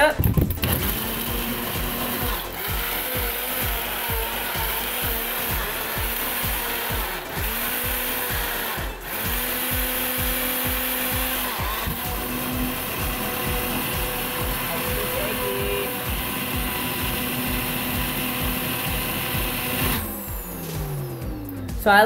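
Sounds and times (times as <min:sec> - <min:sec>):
blender motor blending ice: 0:00.6 - 0:21.8.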